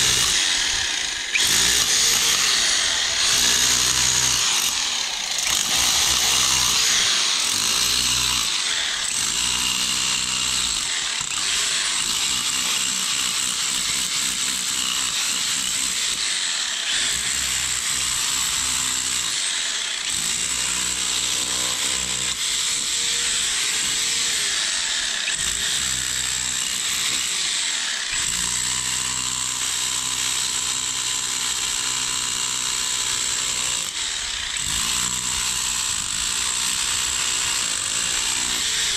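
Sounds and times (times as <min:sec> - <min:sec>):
power tool working into stone: 0:00.0 - 0:38.9.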